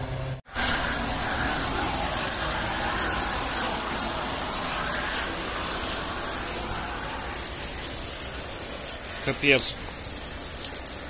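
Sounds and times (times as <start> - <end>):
heavy rain: 0.0 - 11.0
raindrops hitting close by: 0.1 - 11.0.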